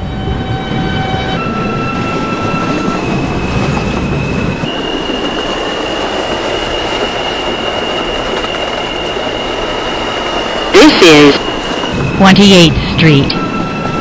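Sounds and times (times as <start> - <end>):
subway car rumble on track: 0.0 - 14.0.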